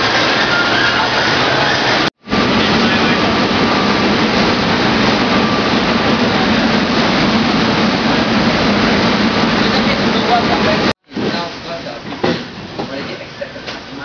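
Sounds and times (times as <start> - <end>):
factory machinery rushing din: 0.0 - 14.0.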